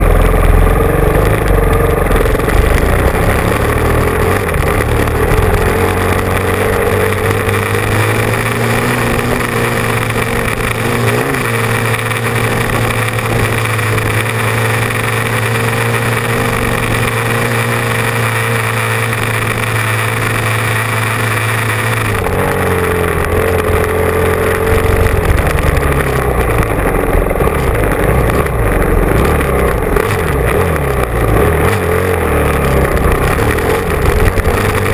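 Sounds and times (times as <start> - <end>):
motorcycle engine running hard: 0.0 - 34.9.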